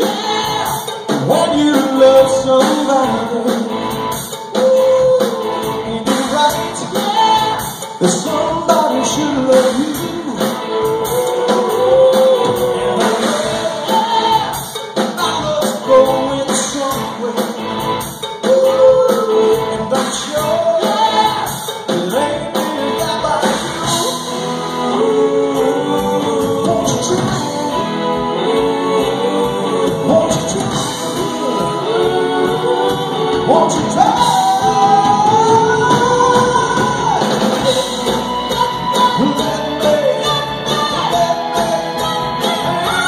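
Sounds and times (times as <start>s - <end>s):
person singing: 0.0s - 43.0s
rock band playing live: 0.0s - 43.0s.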